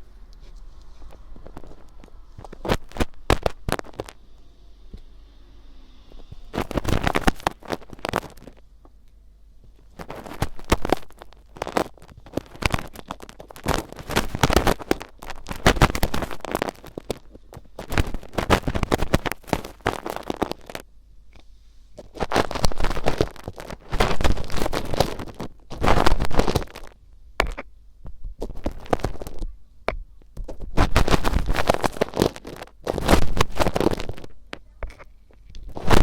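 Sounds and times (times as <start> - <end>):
ear picks scratching in ear: 0.0 - 4.3, 6.1 - 8.6, 9.8 - 20.8, 22.0 - 27.6, 30.5 - 36.0.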